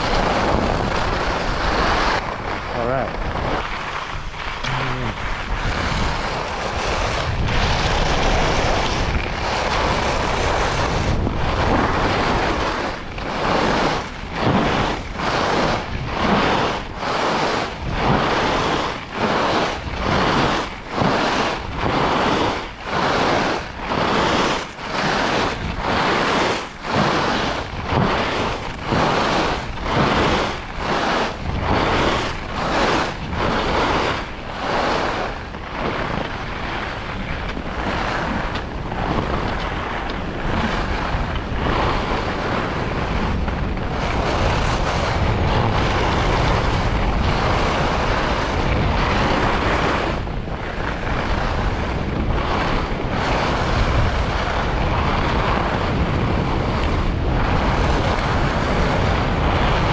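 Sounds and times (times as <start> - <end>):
skis sliding on snow: 0.0 - 59.9
wind on microphone: 0.0 - 59.9.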